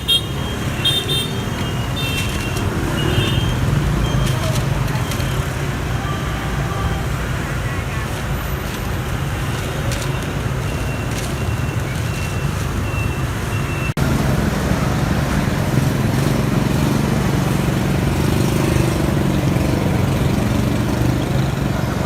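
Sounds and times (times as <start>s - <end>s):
traffic engines passing: 0.0s - 22.0s.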